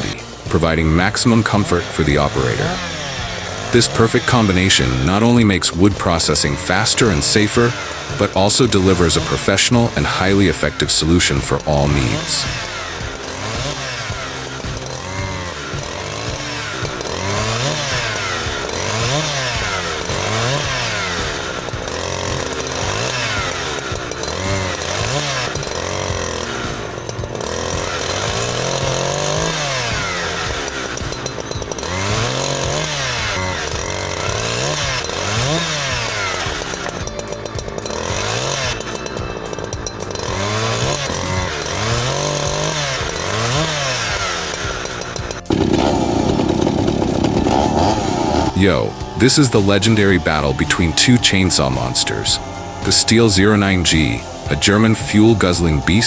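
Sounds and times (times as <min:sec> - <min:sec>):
chainsaw revving while cutting: 0:00.0 - 0:56.0.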